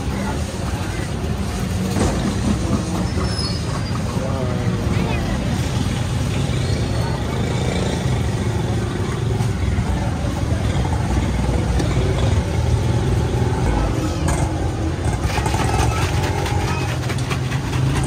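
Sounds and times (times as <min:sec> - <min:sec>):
traffic engines running: 0:00.0 - 0:18.0.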